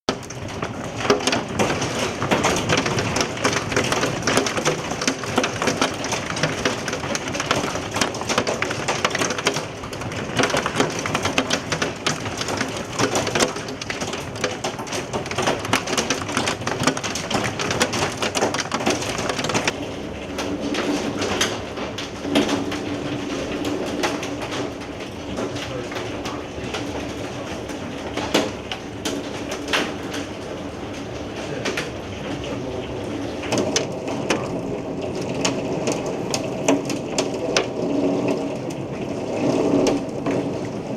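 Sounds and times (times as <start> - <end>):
hailstones clattering: 0.1 - 40.9.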